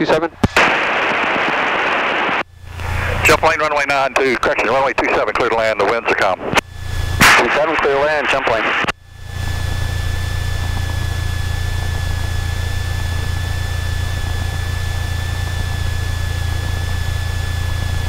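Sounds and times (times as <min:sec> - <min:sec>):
high whine: 0:00.0 - 0:18.0
aircraft engine idling: 0:02.4 - 0:05.7, 0:06.6 - 0:18.0.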